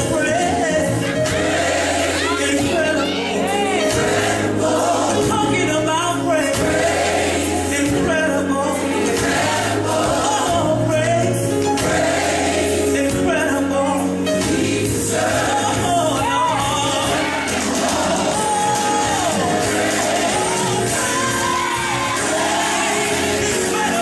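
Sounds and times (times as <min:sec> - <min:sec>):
band accompaniment: 0:00.0 - 0:24.0
choir singing: 0:00.0 - 0:24.0.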